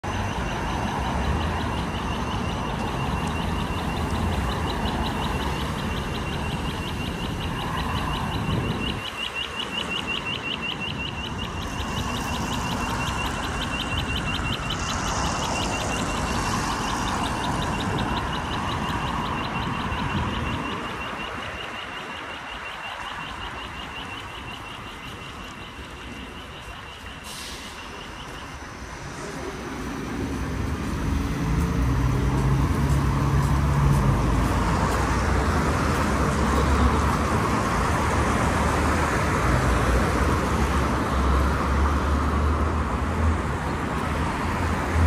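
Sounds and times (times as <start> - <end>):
crossing signal beeping rapidly: 0.0 - 43.0
street traffic hum: 0.0 - 45.0.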